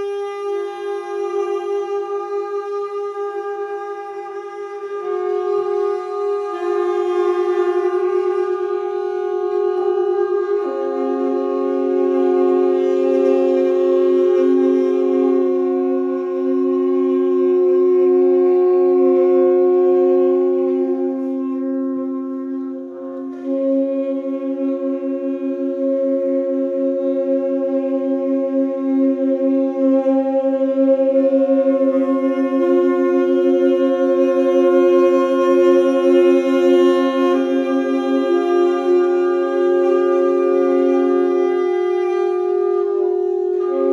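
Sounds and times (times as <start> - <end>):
saxophone quartet sustained drone: 0.0 - 43.9.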